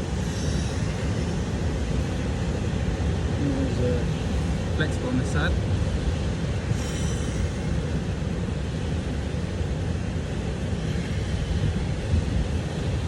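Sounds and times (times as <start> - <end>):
ocean surf rumbling: 0.0 - 13.0
wind buffeting microphone: 0.0 - 13.0.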